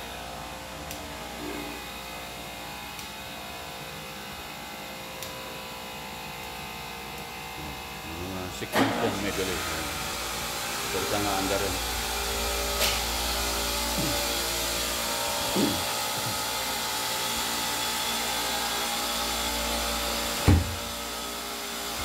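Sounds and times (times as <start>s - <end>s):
compressors humming: 0.0s - 22.0s.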